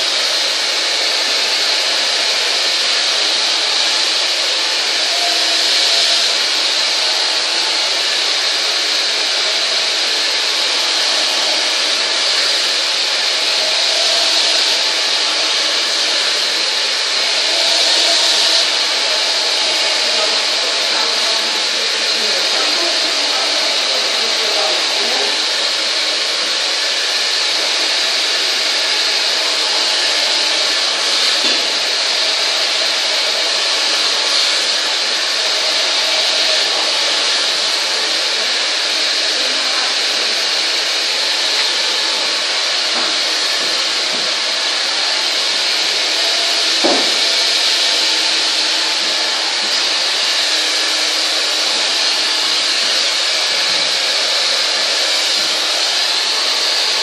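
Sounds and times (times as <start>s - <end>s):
hair dryer running: 0.0s - 57.0s
brush through hair: 0.3s - 56.9s.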